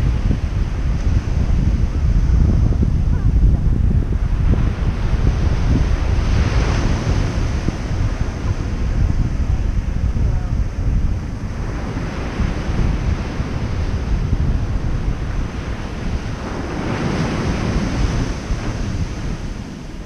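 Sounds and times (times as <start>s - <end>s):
waves breaking on beach: 0.0s - 20.0s
wind on microphone: 0.0s - 20.0s.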